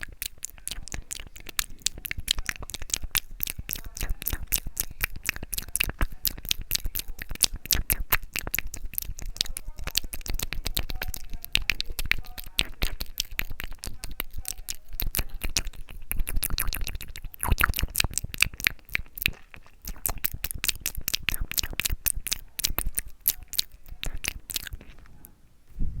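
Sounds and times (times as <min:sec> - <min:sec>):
wet tongue and lip clicks: 0:00.0 - 0:25.3.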